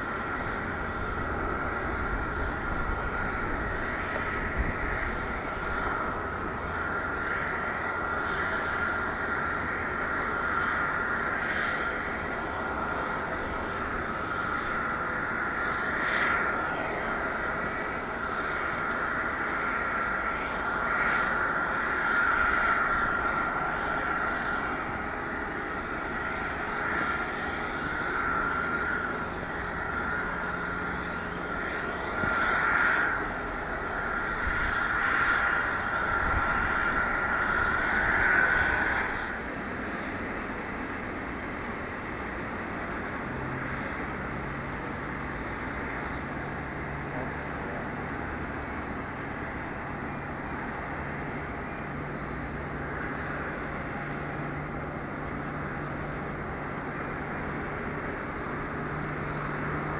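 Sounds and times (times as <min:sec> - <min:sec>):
jet engine whine: 0:00.0 - 0:59.9
low hum: 0:00.0 - 0:59.9.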